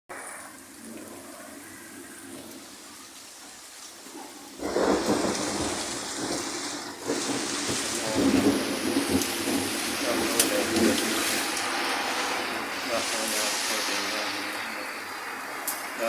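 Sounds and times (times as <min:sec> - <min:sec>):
heavy rain: 0:00.1 - 0:16.0
wind: 0:00.1 - 0:16.0.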